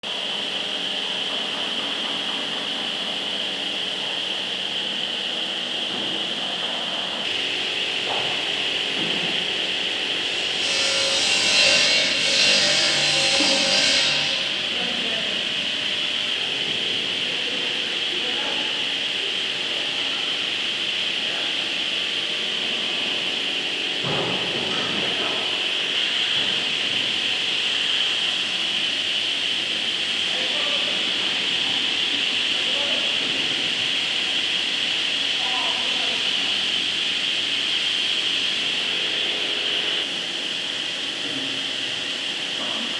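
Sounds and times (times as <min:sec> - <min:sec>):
woodworking machine whining: 0:00.1 - 0:42.9.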